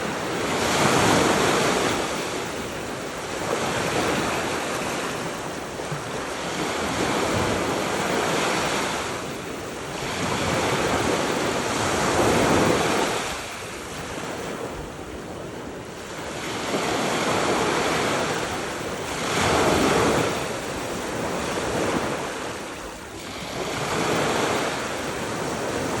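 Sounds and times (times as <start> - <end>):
surf breaking on beach: 0.0 - 26.0
wind on microphone: 0.0 - 26.0.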